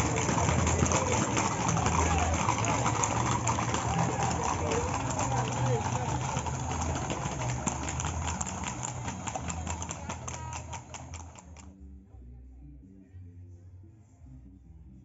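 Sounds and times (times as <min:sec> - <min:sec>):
outdoor crowd chatter: 0:00.0 - 0:14.2
faint music: 0:00.0 - 0:15.0.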